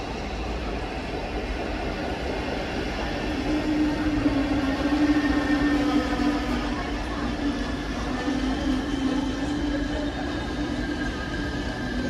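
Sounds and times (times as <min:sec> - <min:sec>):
train rumble: 0:00.0 - 0:12.0
train whine: 0:00.0 - 0:12.0.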